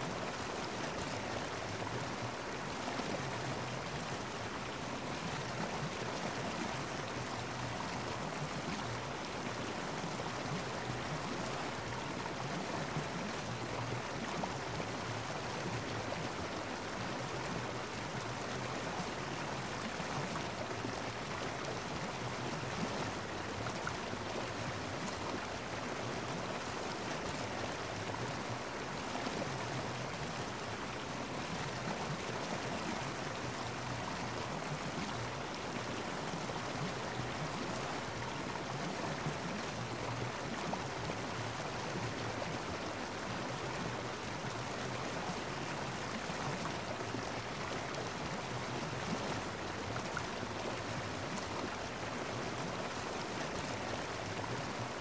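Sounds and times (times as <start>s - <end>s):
rushing flowing water: 0.0s - 55.0s.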